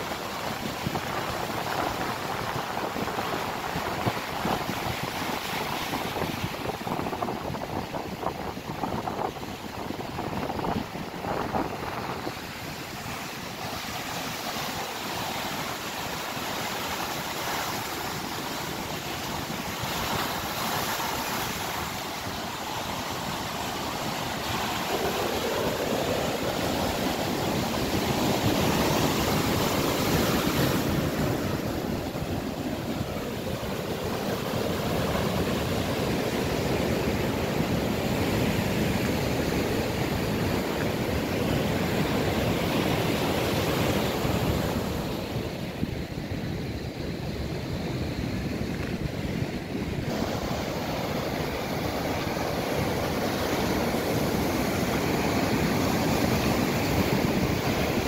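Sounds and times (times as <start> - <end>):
stormy sea surf roaring: 0.0 - 58.0.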